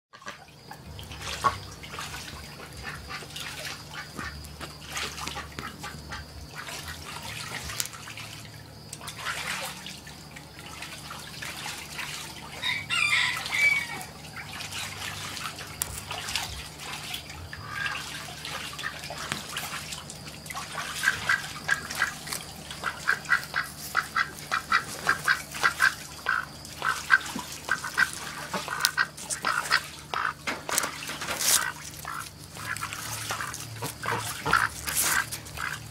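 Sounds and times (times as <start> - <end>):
ducks quacking: 0.1 - 7.6, 12.4 - 19.8, 20.5 - 35.9.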